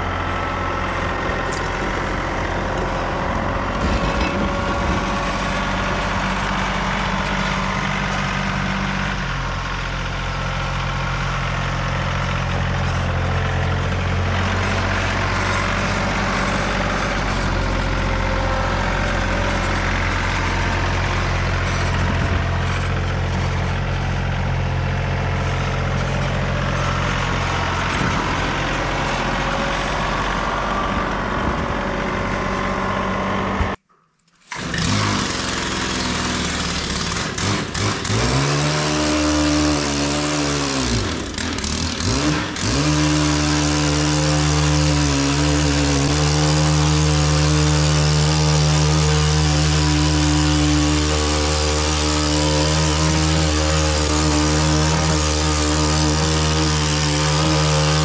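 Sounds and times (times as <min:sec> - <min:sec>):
power brush engine revving: 0:00.0 - 0:33.8, 0:34.4 - 0:58.0
tractor diesel engine under load: 0:00.0 - 0:58.0.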